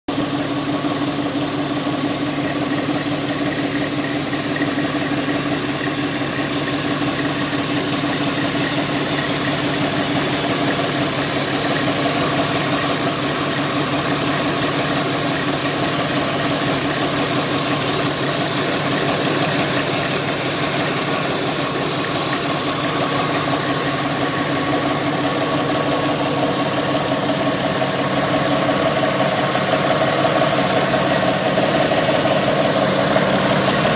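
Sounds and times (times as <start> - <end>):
car engine running: 0.1 - 33.9
continuous squeak: 0.1 - 33.9.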